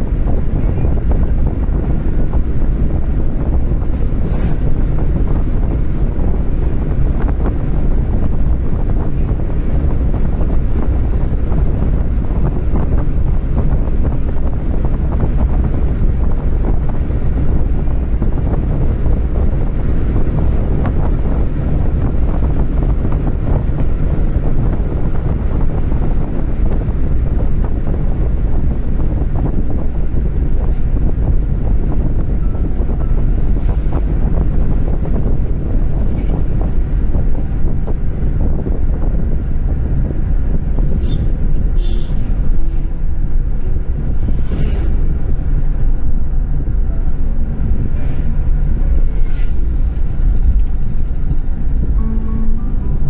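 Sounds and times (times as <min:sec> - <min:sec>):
road and wind noise in car: 0:00.0 - 0:53.0
wind buffeting microphone: 0:00.0 - 0:53.0.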